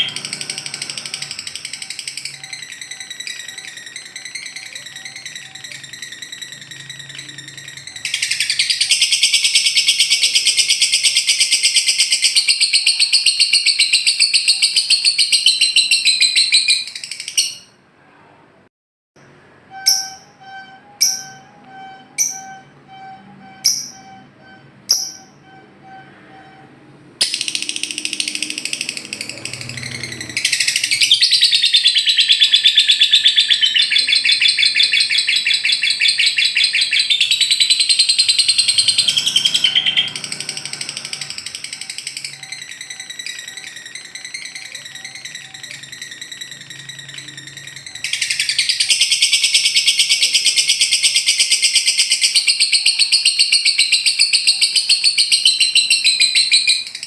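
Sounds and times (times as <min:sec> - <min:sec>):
bird rapid chattering trill: 0:00.0 - 0:17.7, 0:27.2 - 0:57.0
bird sharp chirps: 0:00.0 - 0:17.7, 0:19.7 - 0:57.0.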